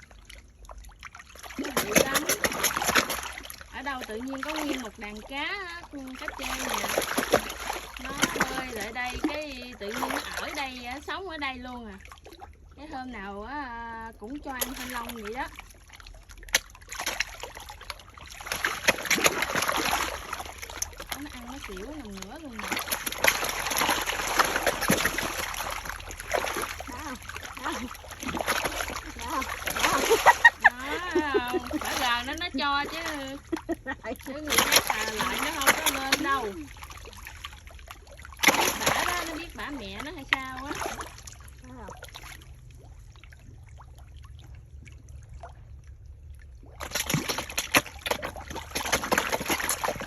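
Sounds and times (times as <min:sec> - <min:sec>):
water splashing: 0:00.0 - 0:50.0.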